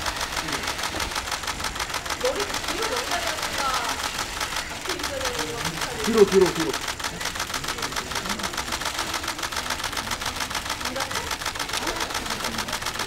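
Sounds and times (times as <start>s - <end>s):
camera shutters clicking: 0.0s - 13.0s.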